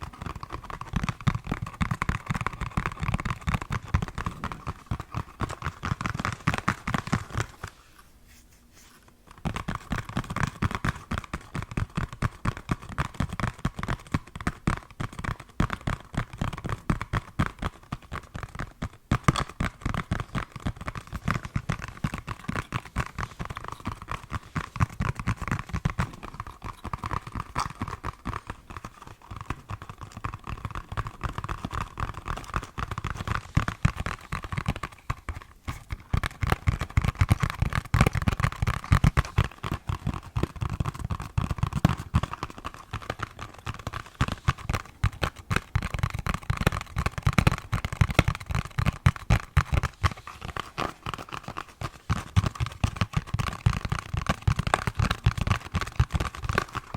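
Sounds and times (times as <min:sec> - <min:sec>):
fingers tapping on hard object: 0:00.0 - 0:07.8, 0:09.3 - 0:56.9.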